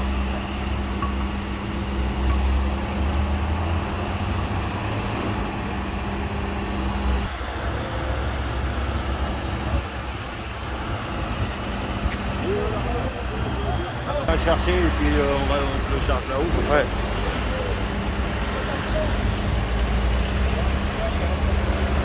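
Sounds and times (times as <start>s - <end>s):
diesel engine rumble: 0.0s - 22.0s.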